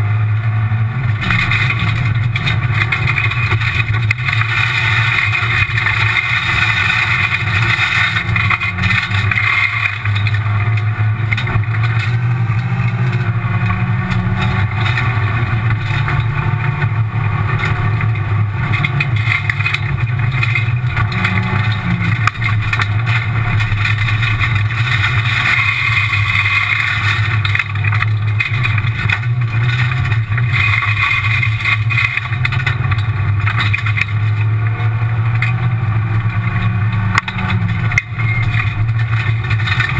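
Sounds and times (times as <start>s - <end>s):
gravel rattling against car body: 0.0s - 39.9s
rally car engine revving: 0.0s - 39.9s.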